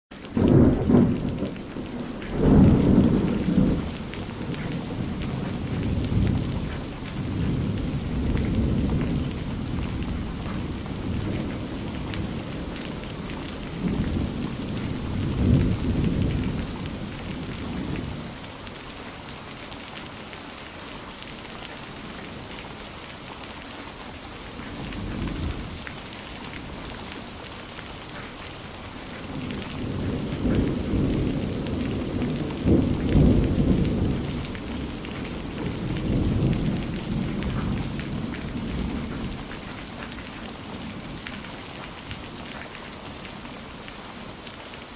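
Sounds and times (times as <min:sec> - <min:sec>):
steady rain falling: 0:00.1 - 0:44.9
thunder rumbling: 0:00.2 - 0:19.2, 0:24.3 - 0:42.9.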